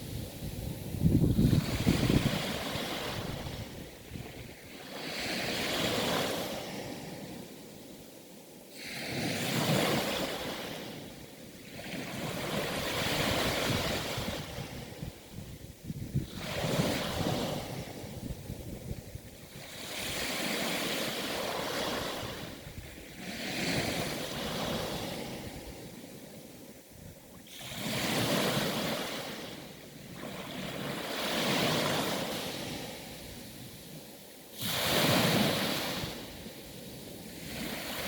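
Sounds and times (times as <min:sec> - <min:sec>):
sea waves breaking: 0:00.0 - 0:07.6, 0:08.7 - 0:15.2, 0:16.1 - 0:26.5, 0:27.5 - 0:38.0.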